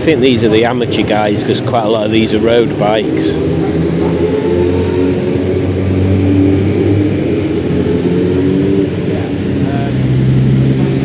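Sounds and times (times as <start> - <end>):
motorcycle engines passing: 0.0 - 11.0.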